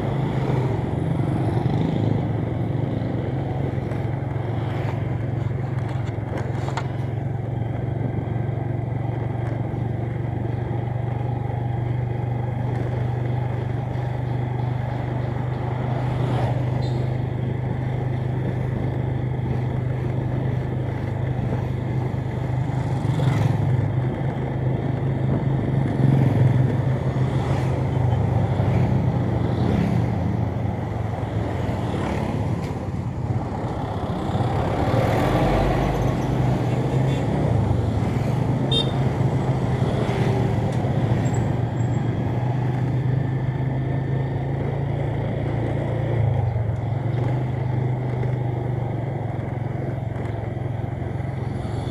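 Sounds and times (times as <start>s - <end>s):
road and tyre noise: 0.0s - 51.9s.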